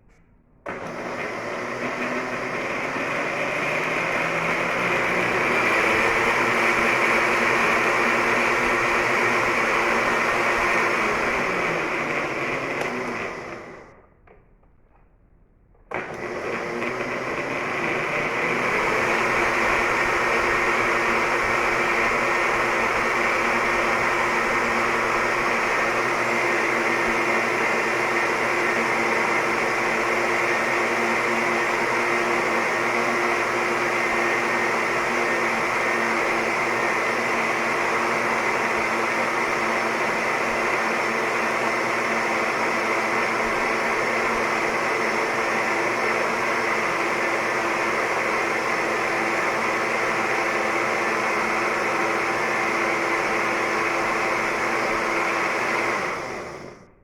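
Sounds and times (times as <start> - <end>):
electric blender running: 0.6 - 14.1, 15.9 - 57.0.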